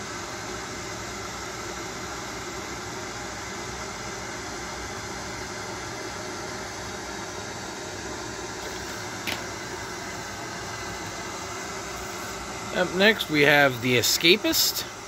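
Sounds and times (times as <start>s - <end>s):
room hiss: 0.0s - 15.0s.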